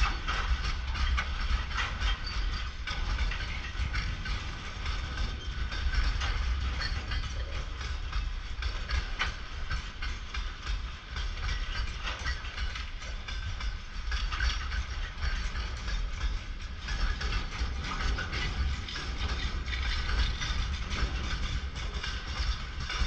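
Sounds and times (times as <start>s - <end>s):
freight train wheels clattering: 0.0s - 23.0s
train low rumble: 0.0s - 23.0s.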